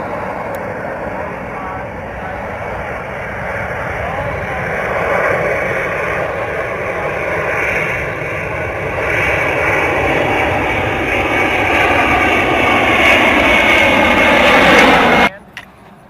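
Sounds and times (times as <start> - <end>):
jet aircraft passing overhead: 0.0 - 16.0.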